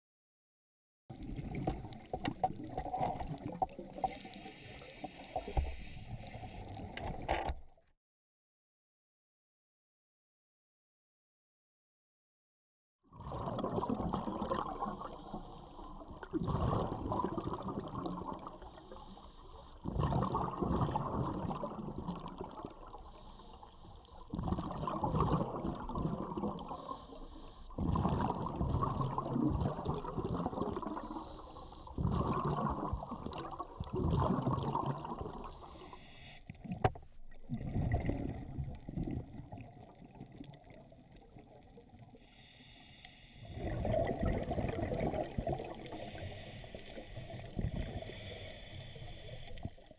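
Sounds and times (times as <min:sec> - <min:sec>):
underwater exhaust bubbles gurgling: 0:01.1 - 0:07.3, 0:13.1 - 0:49.9.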